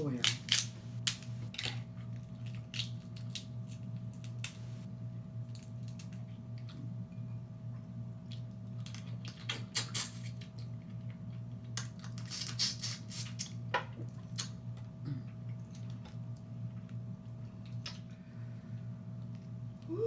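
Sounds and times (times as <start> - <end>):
steady low hum: 0.0 - 12.1, 13.3 - 20.0.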